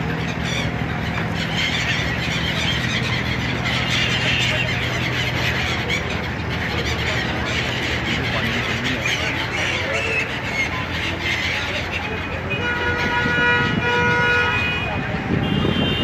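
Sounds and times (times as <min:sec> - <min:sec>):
boat engine hum: 0:00.0 - 0:16.0
gulls calling: 0:00.0 - 0:16.0.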